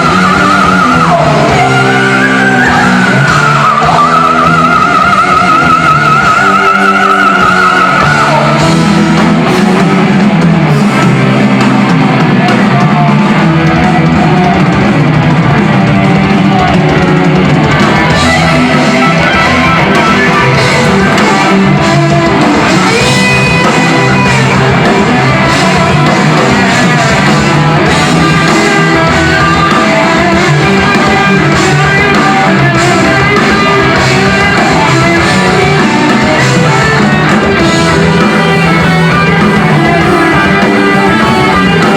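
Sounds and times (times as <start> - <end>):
heavy metal band playing live: 0.0 - 41.9.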